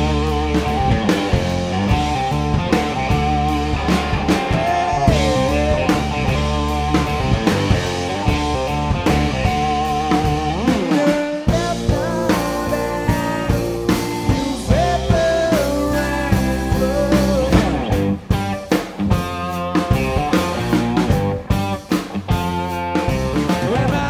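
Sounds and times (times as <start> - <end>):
drum hits: 0.0 - 23.8
blues-rock band playing: 0.0 - 24.0
electric guitar sliding and bending: 0.0 - 24.0.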